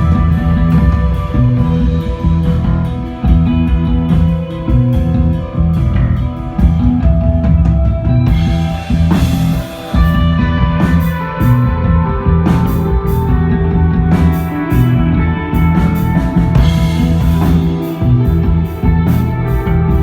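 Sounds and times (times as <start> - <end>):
bass guitar: 0.0 - 20.0
drum kit: 0.0 - 20.0
electric guitar: 0.0 - 20.0.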